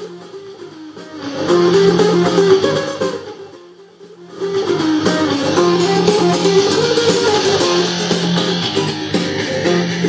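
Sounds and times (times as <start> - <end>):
rock music with electric guitar: 0.0 - 10.0.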